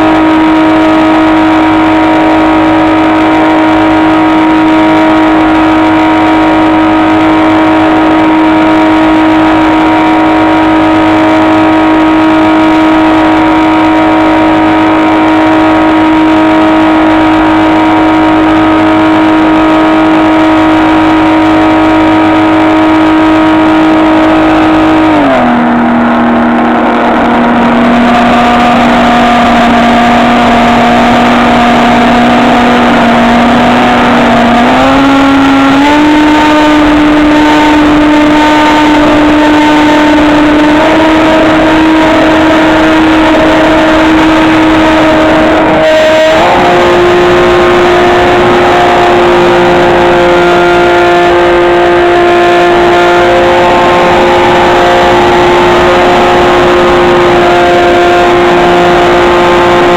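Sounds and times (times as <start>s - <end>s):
electric model plane motor whine: 0.0s - 59.9s.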